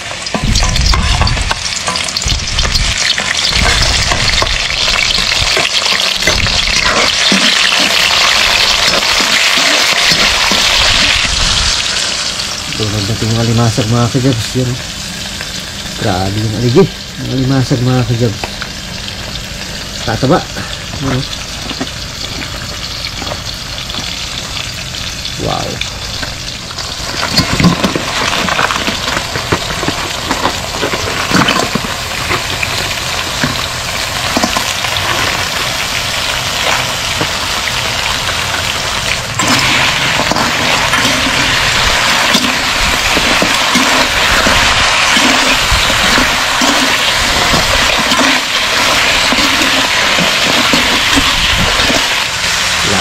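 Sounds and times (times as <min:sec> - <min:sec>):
crabs sizzling in a hot pan: 0:00.0 - 0:53.0.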